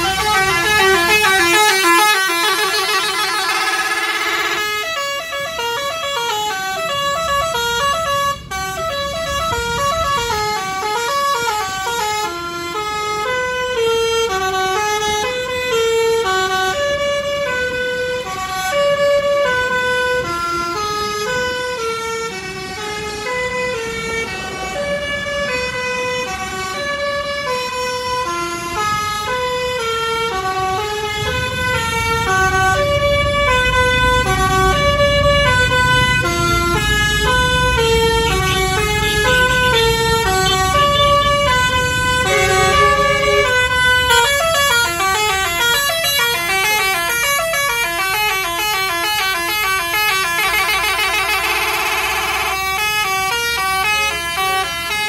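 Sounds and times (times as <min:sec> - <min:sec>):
musical bus horn playing a tune: 0:00.0 - 0:55.0.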